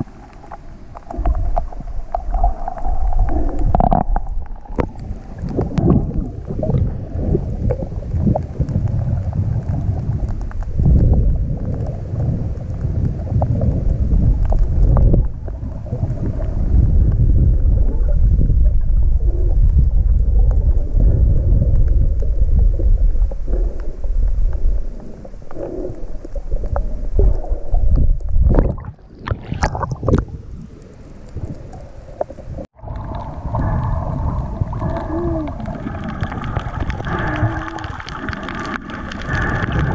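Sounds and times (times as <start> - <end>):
bubbly crackles: 0.0 - 39.9
muffled underwater rumbling: 0.0 - 39.9.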